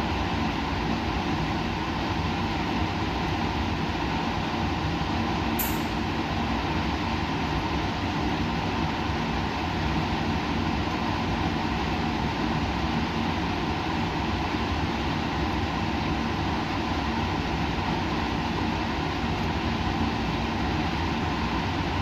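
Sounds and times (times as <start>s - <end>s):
constant low hum: 0.0s - 22.0s
laboratory rumble and hiss: 0.0s - 22.0s.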